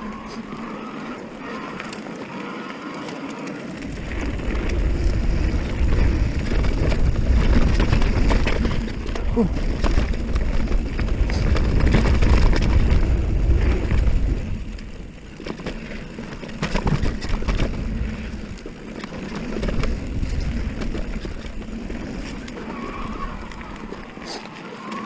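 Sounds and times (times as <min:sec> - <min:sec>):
tyres rolling over dirt and rocks: 0:00.0 - 0:25.0
wind buffeting microphone: 0:03.8 - 0:24.4.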